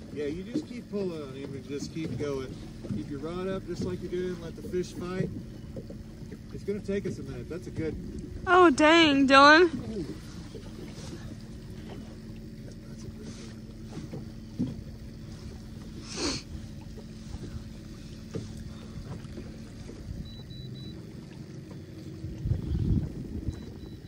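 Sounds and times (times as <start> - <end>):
constant low hum: 0.0 - 24.0
water noise: 0.0 - 24.0
wind: 0.0 - 24.0.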